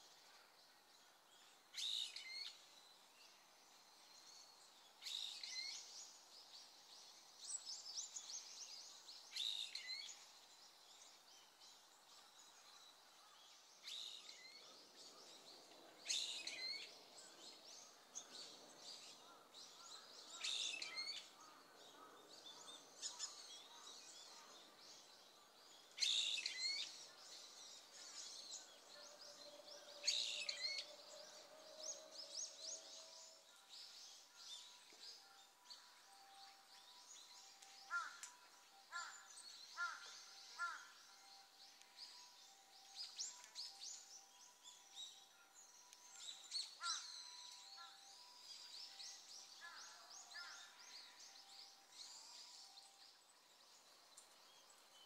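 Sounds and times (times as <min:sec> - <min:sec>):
faint outdoor hiss: 0:00.0 - 0:55.0.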